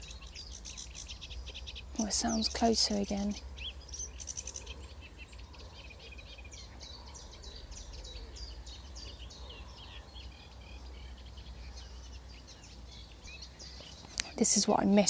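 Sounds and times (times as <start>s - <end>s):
warbler singing: 0.0s - 15.0s.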